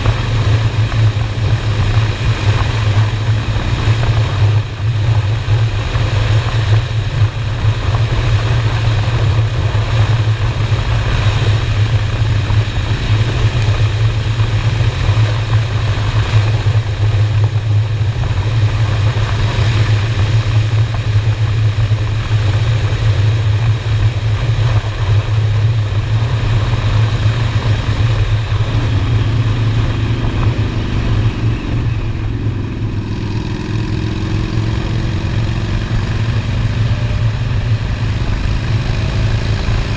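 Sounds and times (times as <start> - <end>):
higher engine tone: 0.0 - 39.9
motorcycle engine running: 0.0 - 39.9
wind on microphone: 0.0 - 39.9.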